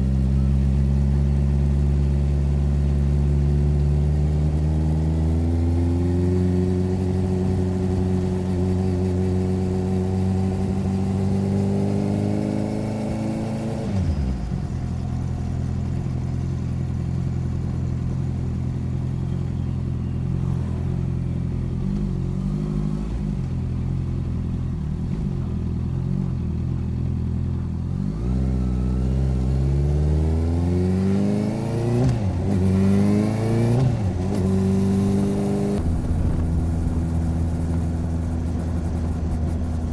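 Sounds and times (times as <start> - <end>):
motorcycle engine revving: 2.6 - 39.9.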